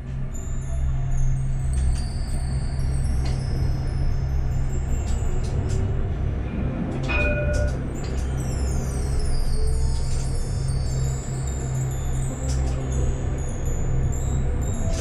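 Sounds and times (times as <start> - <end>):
tram rolling on rails: 0.0 - 15.0
tram traction hum: 0.0 - 15.0.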